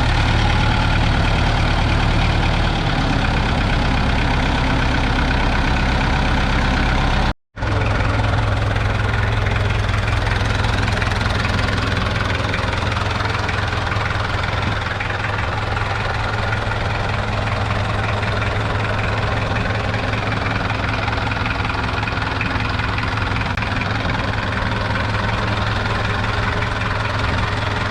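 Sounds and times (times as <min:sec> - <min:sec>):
diesel engine idling: 0:00.0 - 0:27.9.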